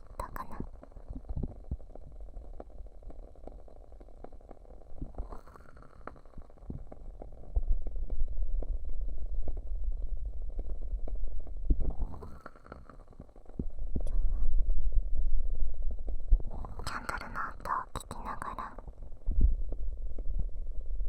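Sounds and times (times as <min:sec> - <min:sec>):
candle crackling and popping: 0:00.0 - 0:21.0.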